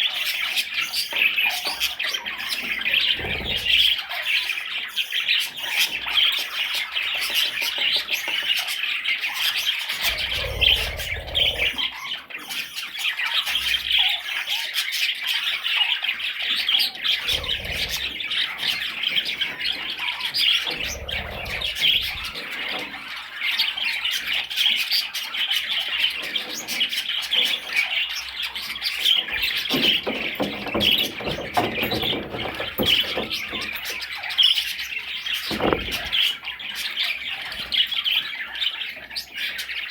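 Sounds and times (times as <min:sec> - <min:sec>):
budgerigar chattering: 0:00.0 - 0:39.9.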